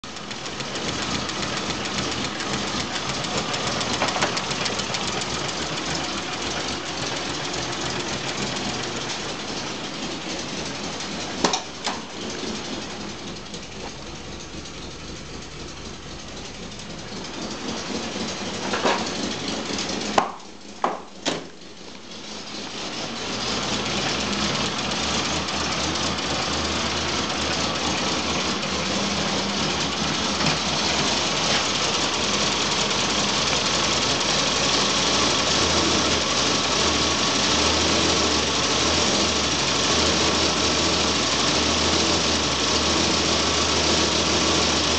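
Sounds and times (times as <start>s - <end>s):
car engine rough idle: 0.0s - 44.9s.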